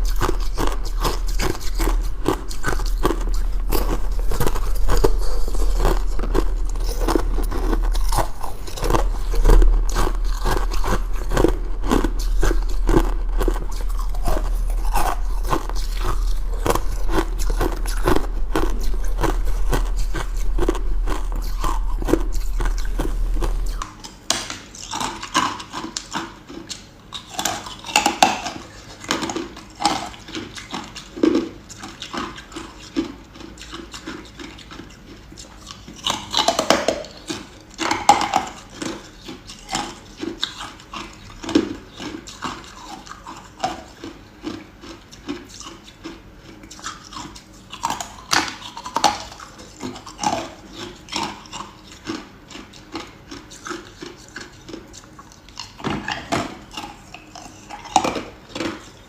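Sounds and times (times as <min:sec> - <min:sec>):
ice crunching in mouth: 0:00.0 - 0:59.0
steady low hum: 0:00.0 - 0:59.0.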